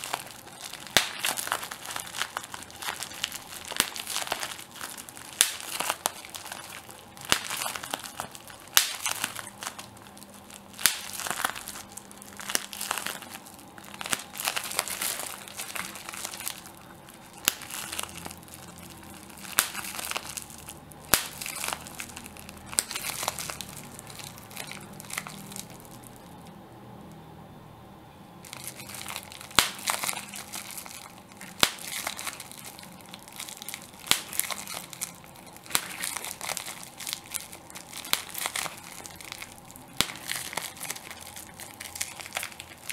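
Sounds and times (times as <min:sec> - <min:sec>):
bubble wrap popping: 0:00.0 - 0:26.5, 0:28.4 - 0:42.9
plastic crinkling: 0:00.0 - 0:26.5, 0:28.4 - 0:42.9.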